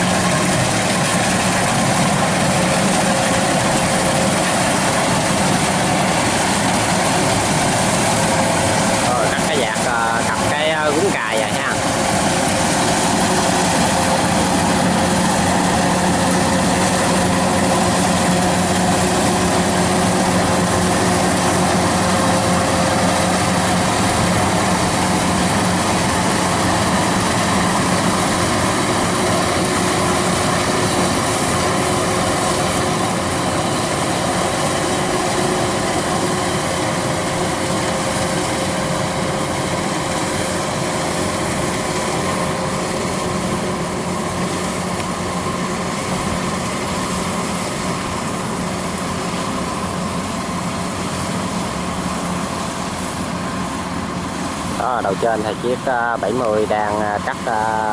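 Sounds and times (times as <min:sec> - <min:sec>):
combine harvester running: 0:00.0 - 0:57.9.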